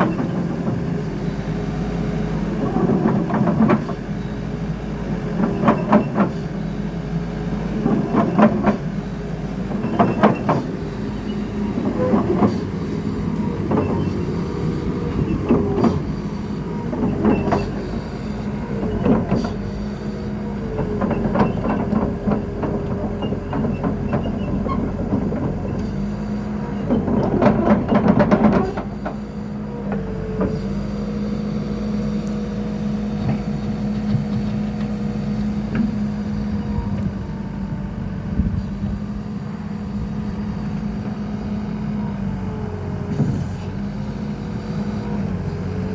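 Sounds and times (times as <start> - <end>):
excavator diesel engine humming: 0.0 - 45.9
hydraulic pump whine: 7.5 - 45.9.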